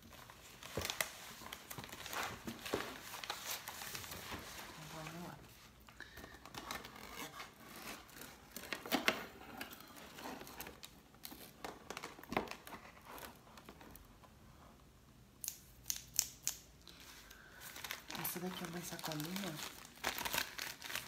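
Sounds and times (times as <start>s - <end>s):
paper rustling and crinkling: 0.0s - 14.1s, 16.9s - 21.0s.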